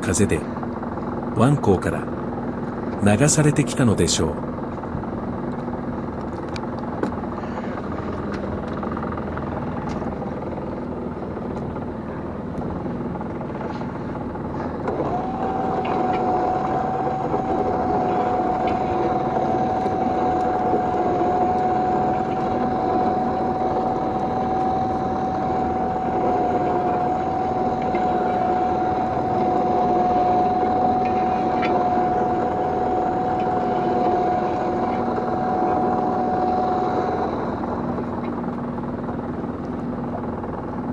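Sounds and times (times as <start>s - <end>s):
boat engine running: 0.0s - 40.9s
steady whine: 0.0s - 40.9s.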